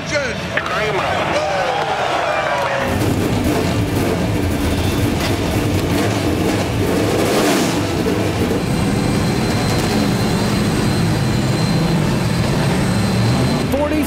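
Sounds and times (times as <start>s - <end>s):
race car engines running: 0.0s - 14.0s.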